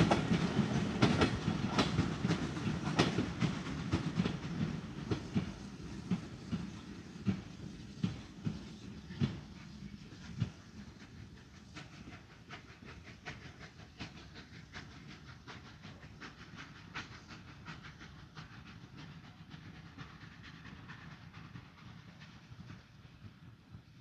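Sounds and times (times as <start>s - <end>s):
distant steam locomotive chuffing: 0.0s - 24.0s.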